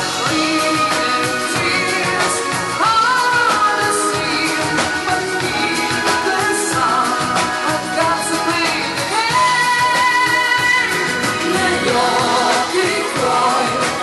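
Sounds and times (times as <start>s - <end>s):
dance band playing pop ballad: 0.0s - 14.0s
person singing: 0.0s - 14.0s
steady drum beat: 0.0s - 14.0s.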